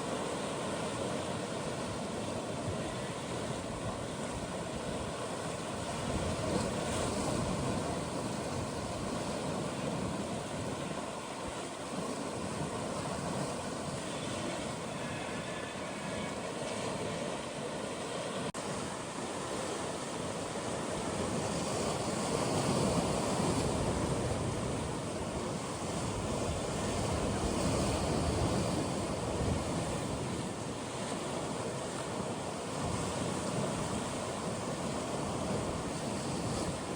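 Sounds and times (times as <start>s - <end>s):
waves washing among rocks: 0.0s - 36.9s
wind buffeting microphone: 1.1s - 17.4s, 20.8s - 36.9s.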